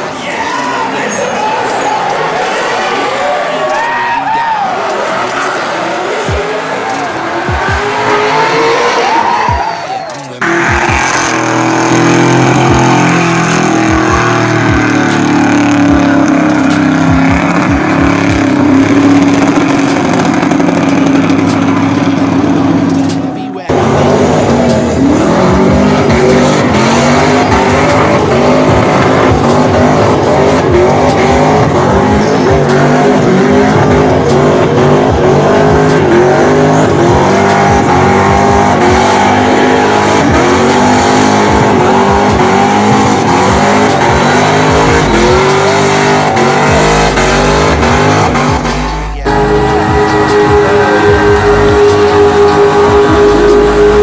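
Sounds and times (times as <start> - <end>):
car engine revving: 0.0 - 54.0
tyres squealing: 0.0 - 54.0.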